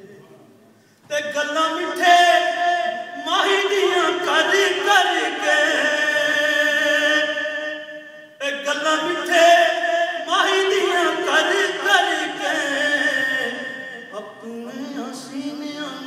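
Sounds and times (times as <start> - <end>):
man singing unaccompanied: 1.0 - 16.0.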